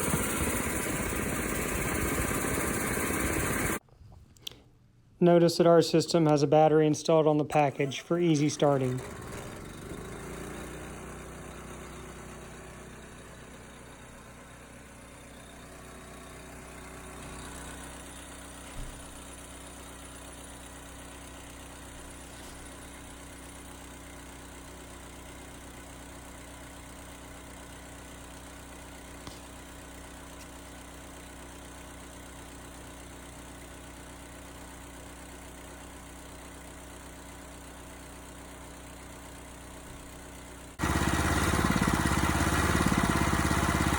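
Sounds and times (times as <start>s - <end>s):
air compressor running: 0.0s - 3.8s, 7.4s - 43.9s.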